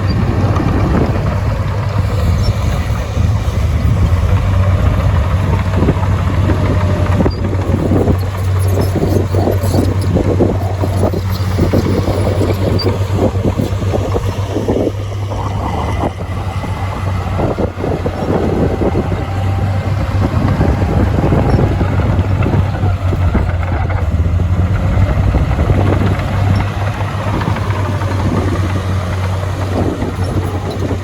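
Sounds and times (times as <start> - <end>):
diesel engine drone: 0.0 - 31.0
machinery rattling: 0.0 - 31.0.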